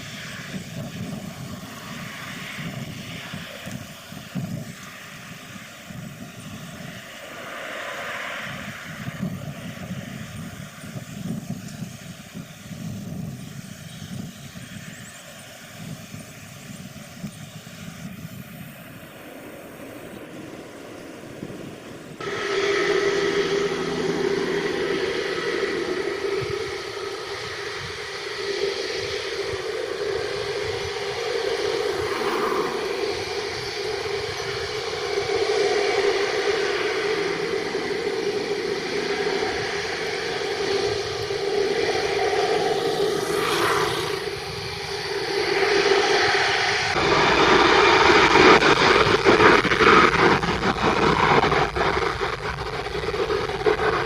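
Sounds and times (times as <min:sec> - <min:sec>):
steady background hiss: 0:00.0 - 0:49.6
distant jet airliner rumble: 0:00.0 - 0:54.0.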